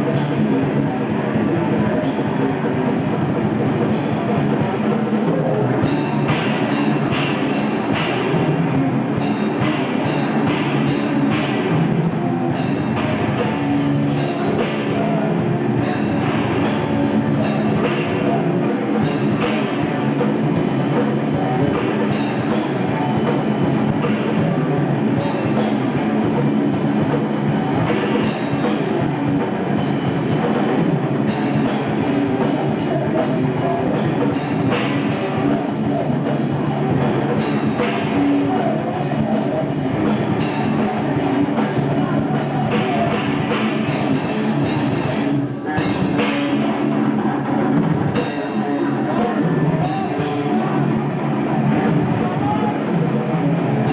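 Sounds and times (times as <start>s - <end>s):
distorted electric guitars: 0.0s - 53.9s
pounding drum kit: 0.0s - 53.9s.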